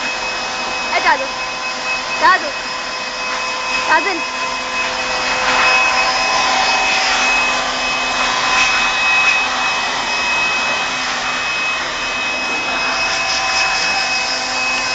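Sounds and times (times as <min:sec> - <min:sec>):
blow dryer running: 0:00.0 - 0:14.9.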